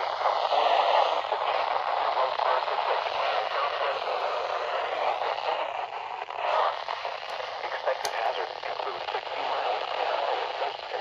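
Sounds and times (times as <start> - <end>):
faint voice through static: 0.0 - 11.0
radio static hiss: 0.0 - 11.0.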